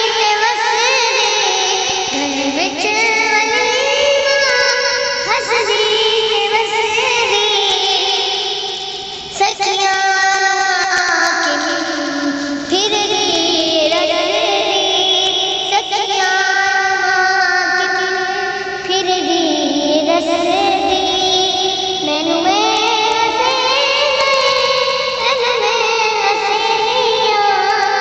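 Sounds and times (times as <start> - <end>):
layered vocal backing: 0.0 - 28.0
young voice singing: 0.0 - 28.0.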